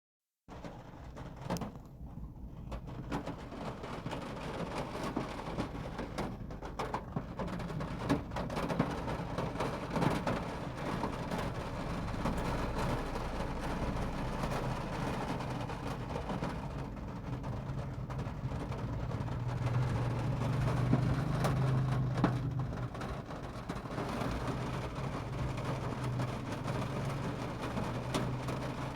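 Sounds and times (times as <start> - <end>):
rain falling: 2.8 - 28.9.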